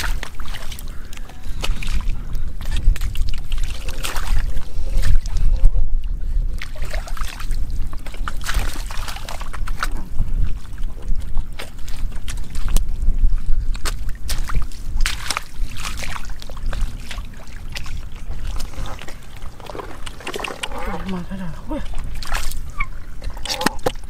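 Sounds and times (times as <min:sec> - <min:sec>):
splashing in muddy water: 0:00.0 - 0:05.4, 0:06.5 - 0:12.9, 0:13.7 - 0:24.0
wind rumble on microphone: 0:00.0 - 0:24.0.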